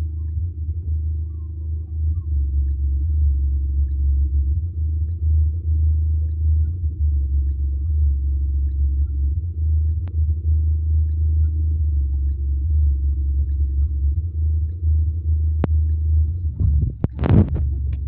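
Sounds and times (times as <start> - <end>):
subwoofer playing deep bass: 0.0 - 18.0.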